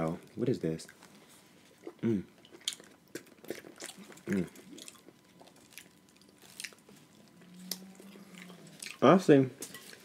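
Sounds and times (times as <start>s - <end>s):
steady low hum: 0.0s - 10.0s
wet chewing: 0.8s - 10.0s.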